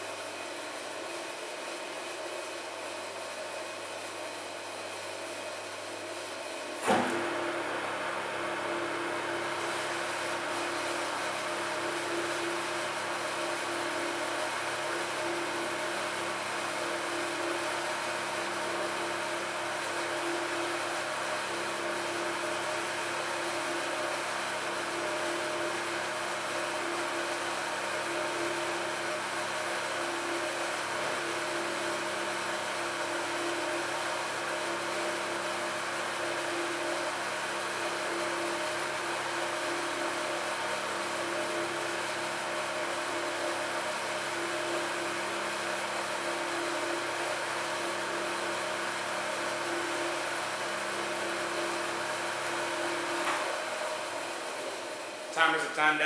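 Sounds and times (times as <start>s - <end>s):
spiral mixer motor hum: 0.0s - 55.8s.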